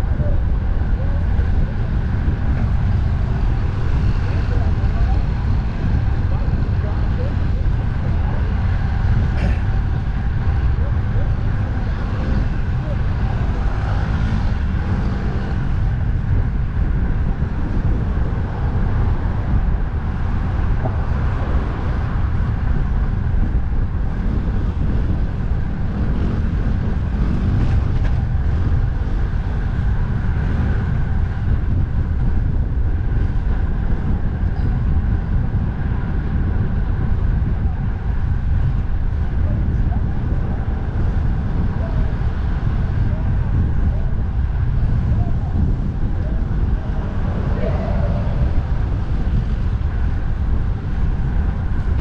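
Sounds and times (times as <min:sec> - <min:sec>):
road traffic: 0:00.0 - 0:52.0
wind on microphone: 0:00.0 - 0:52.0.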